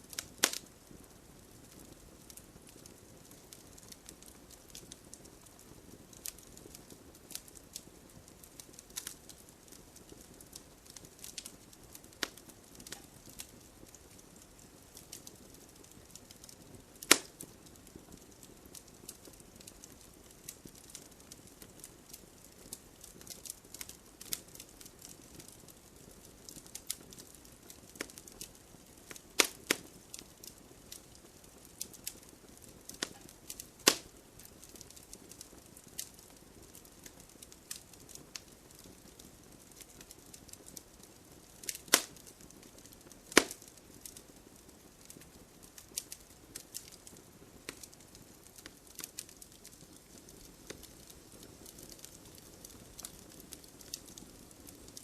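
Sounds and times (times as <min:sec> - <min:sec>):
hiss of flames: 0:00.0 - 0:25.7, 0:26.3 - 0:55.0
campfire crackling and popping: 0:00.0 - 0:55.0.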